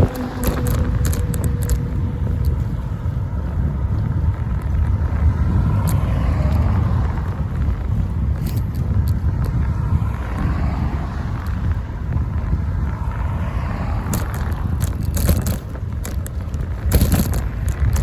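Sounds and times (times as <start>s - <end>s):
passing motor traffic: 0.0s - 18.0s
road rumble: 0.0s - 18.0s
wind rushing over microphone: 0.0s - 18.0s.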